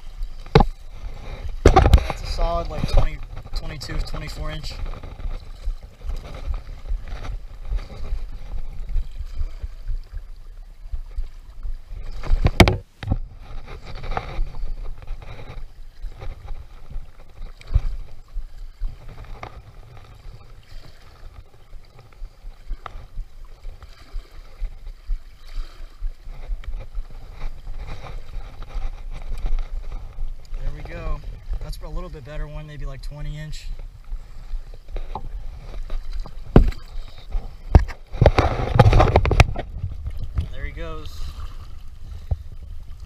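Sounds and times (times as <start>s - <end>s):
seawater sloshing around legs: 0.0s - 43.0s
wind rumbling on microphone: 0.0s - 43.0s.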